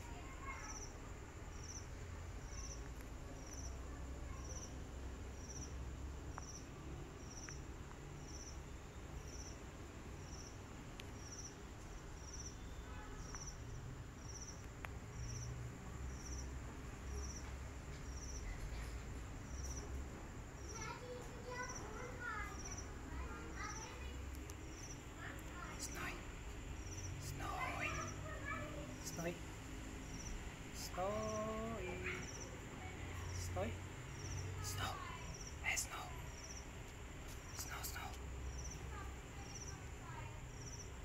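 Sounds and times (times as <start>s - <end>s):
cricket chirping: 0.0s - 41.0s
high insect whine: 0.0s - 41.0s.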